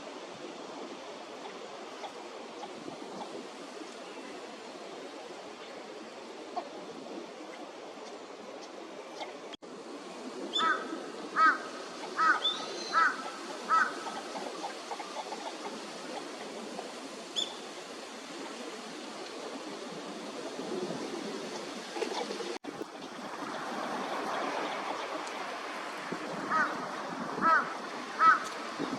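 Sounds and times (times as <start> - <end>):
water: 0.0 - 28.9.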